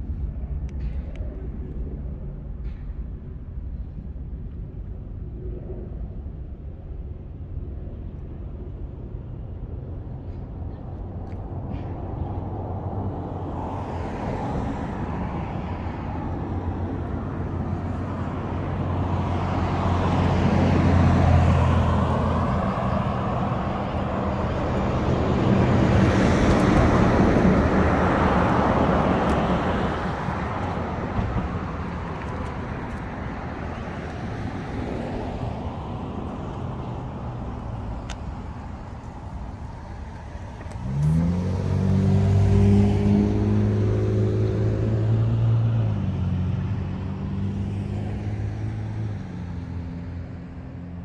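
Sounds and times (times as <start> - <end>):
road traffic rumble: 0.0 - 51.0
vehicles passing close: 0.0 - 51.0.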